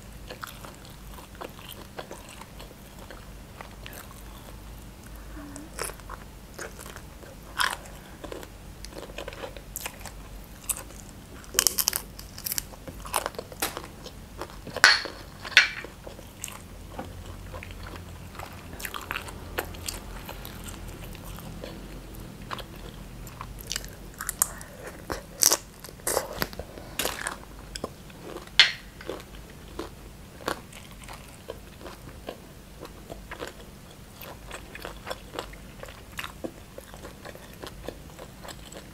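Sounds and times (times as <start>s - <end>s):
person chewing crunchy food: 0.0s - 4.7s, 5.7s - 38.9s.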